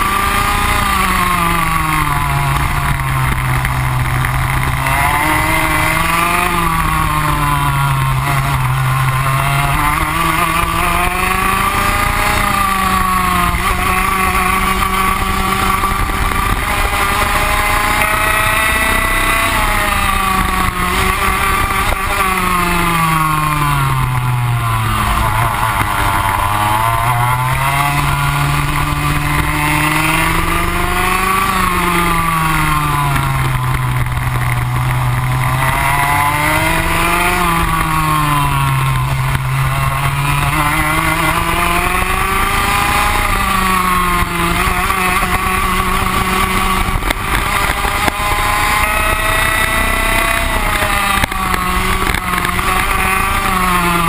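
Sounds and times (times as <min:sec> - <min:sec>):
kart two-stroke engine revving: 0:00.0 - 0:54.0.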